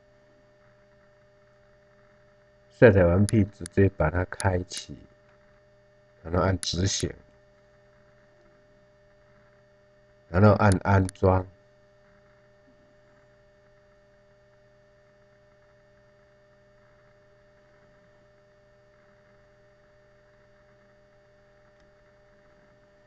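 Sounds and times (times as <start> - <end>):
faint hum with hiss: 0.0 - 23.0.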